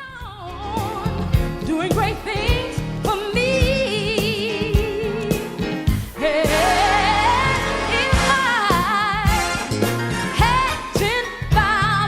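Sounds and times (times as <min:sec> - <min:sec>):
female-style singing with vibrato: 0:00.0 - 0:05.6, 0:06.2 - 0:09.7, 0:10.3 - 0:12.0
band with steady beat: 0:00.9 - 0:12.0.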